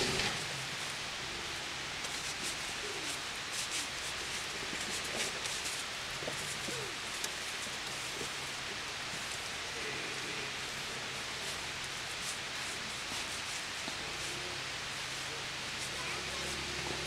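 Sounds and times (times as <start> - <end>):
vehicle engine running low: 0.0 - 3.4, 4.2 - 17.0
outdoor hiss: 0.0 - 17.0.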